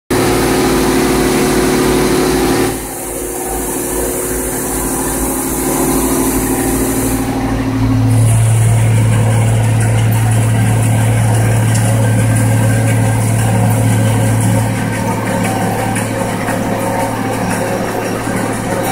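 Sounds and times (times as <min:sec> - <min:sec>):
deep hum: 0:00.1 - 0:18.9
tractor engine running: 0:00.1 - 0:18.9.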